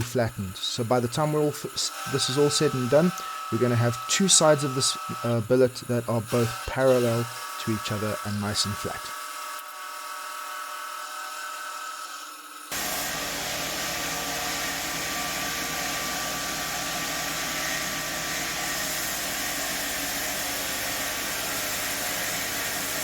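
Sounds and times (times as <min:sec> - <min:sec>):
workshop machine motor whirring: 0:00.0 - 0:23.0.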